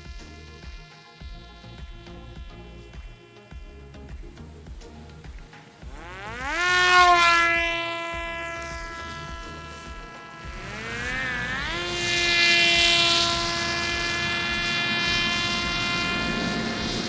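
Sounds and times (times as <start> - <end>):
electric motor and propeller whining: 0.0 - 17.0.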